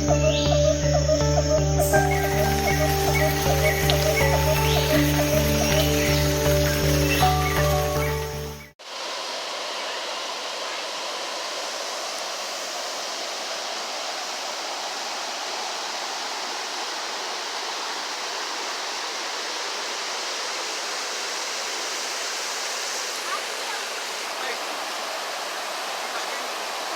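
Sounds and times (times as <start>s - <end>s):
waterfall rushing: 1.8s - 26.9s.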